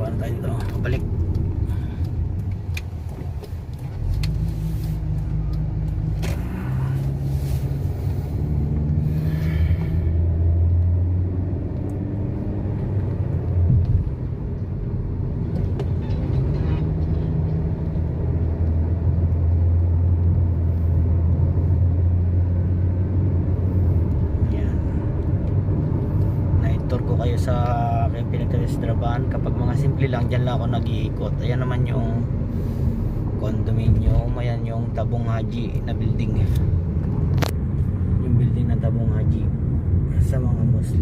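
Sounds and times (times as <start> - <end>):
car engine: 0.0 - 41.0
road rumble: 0.0 - 41.0.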